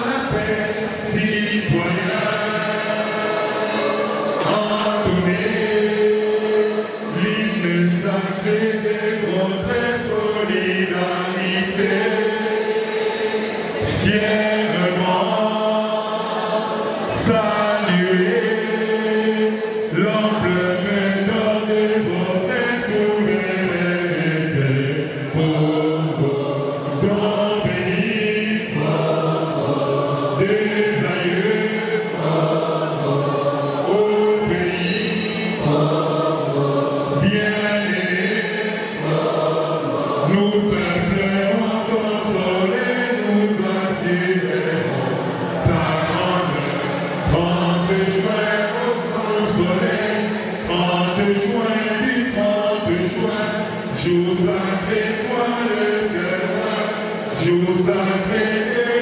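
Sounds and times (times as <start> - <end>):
group singing a chant-like hymn: 0.0 - 59.0.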